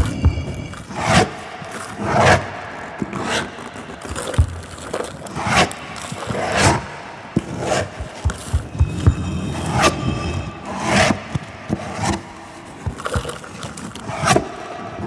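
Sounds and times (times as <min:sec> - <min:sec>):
rough scraping strokes: 0:00.0 - 0:14.6.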